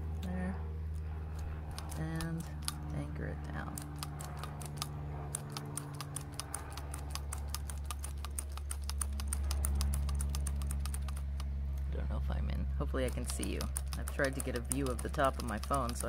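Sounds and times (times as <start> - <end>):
low hum: 0.0 - 16.0
felting needles clicking: 1.3 - 2.9, 3.6 - 11.9, 13.0 - 16.0.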